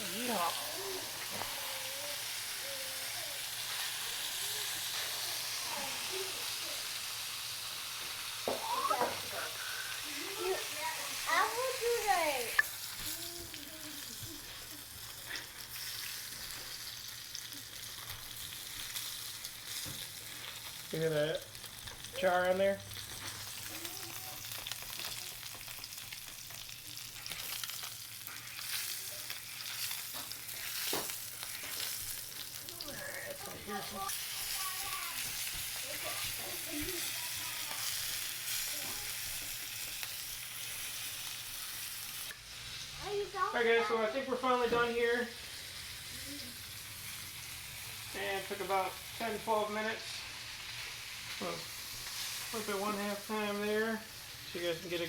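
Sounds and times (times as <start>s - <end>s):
steak sizzling on a griddle: 0.0s - 55.0s.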